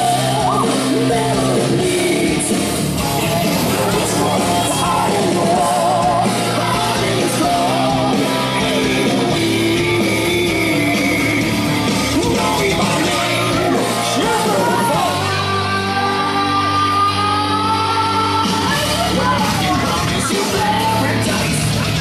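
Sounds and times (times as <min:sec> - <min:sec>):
rock song with singing: 0:00.0 - 0:22.0.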